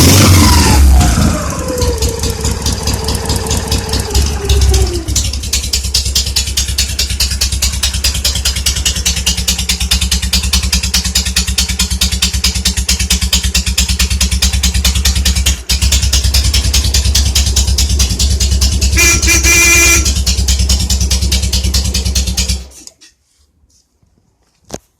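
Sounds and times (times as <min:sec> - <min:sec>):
motorcycle engine idling: 0:00.9 - 0:22.8.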